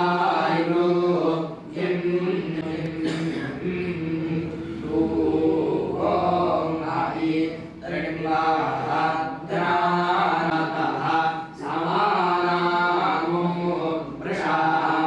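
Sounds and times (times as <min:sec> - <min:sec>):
person chanting: 0:00.0 - 0:15.0.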